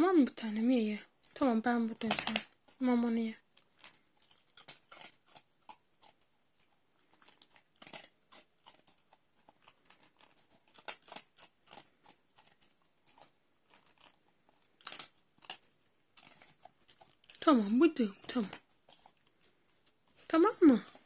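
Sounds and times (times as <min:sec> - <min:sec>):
dog chewing dry kibble: 0:00.9 - 0:21.0.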